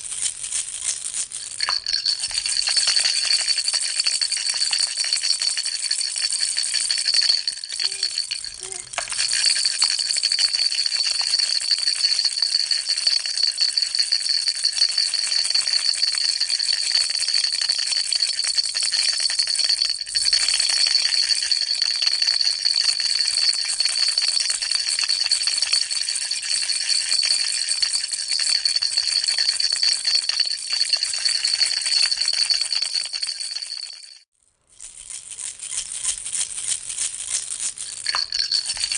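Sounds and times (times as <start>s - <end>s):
baby rattle shaking: 0.0s - 38.9s.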